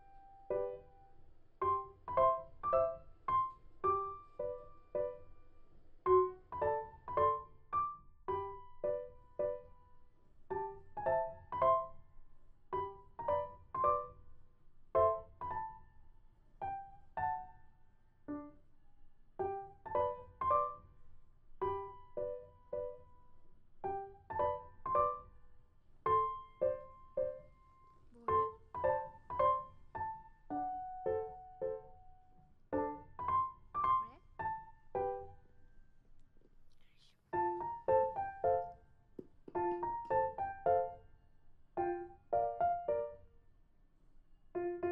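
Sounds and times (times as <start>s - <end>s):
light piano tune: 0.0s - 43.4s, 44.5s - 44.9s.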